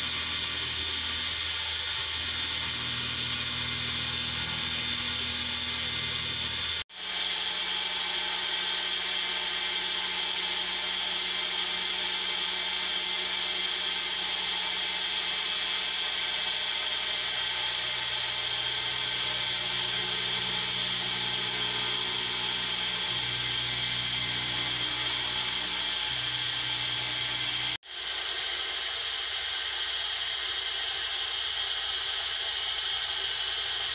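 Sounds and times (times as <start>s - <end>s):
milling machine cutting metal: 0.0s - 28.2s.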